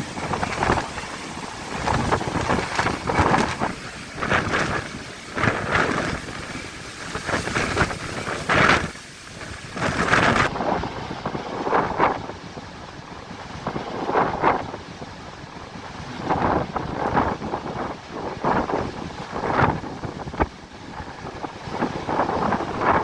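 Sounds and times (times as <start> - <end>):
rough sea waves: 0.0 - 23.0
wind buffeting microphone: 0.0 - 23.0.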